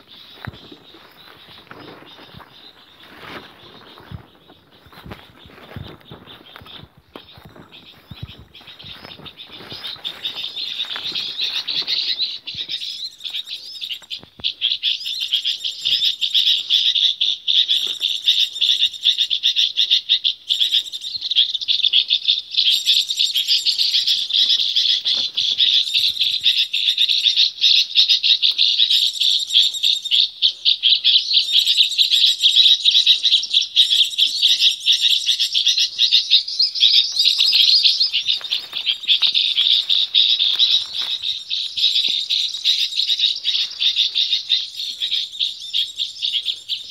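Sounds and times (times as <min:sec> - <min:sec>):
flock of small birds chirping: 0:00.0 - 0:46.9.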